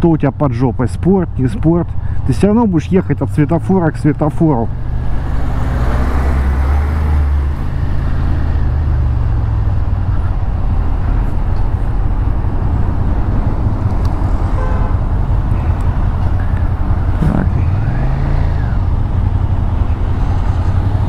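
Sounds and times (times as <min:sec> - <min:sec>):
traffic noise: 0:00.0 - 0:21.0
motorcycle engine at low revs: 0:01.1 - 0:21.0.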